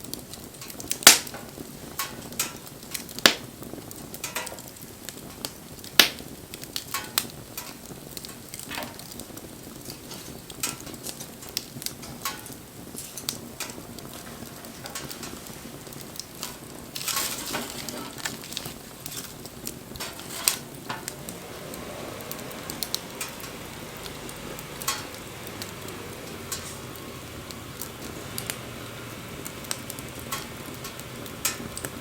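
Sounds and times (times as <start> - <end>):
fire hissing: 0.0 - 32.0
wood fire crackling and popping: 0.0 - 32.0.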